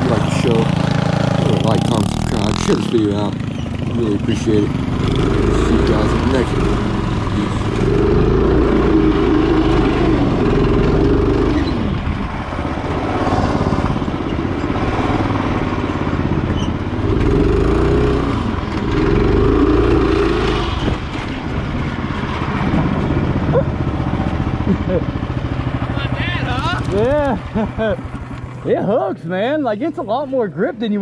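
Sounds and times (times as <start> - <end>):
go-kart engine revving: 0.0 - 30.2.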